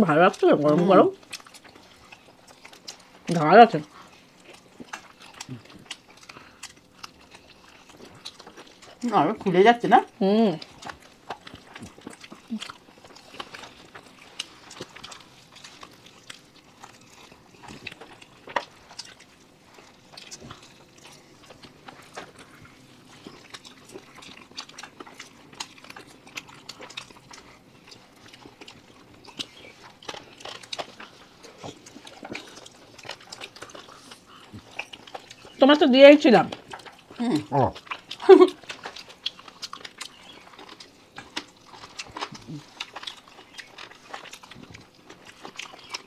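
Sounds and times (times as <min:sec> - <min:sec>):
people chewing and biting: 0:00.0 - 0:46.0.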